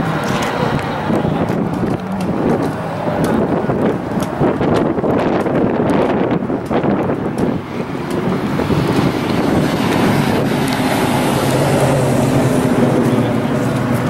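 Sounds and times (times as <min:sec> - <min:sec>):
car engine idling: 0:00.0 - 0:14.0
wind on microphone: 0:00.0 - 0:14.0.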